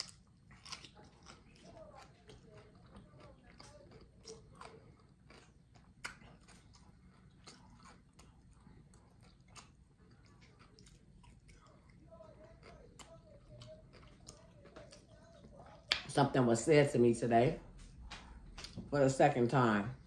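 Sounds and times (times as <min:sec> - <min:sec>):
wet chewing clicks and smacks: 0:00.0 - 0:16.1.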